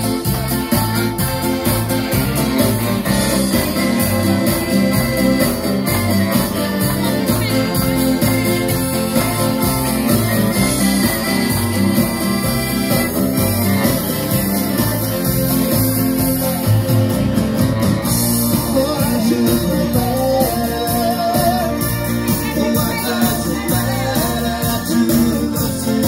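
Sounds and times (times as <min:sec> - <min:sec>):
acoustic band playing: 0:00.0 - 0:26.0.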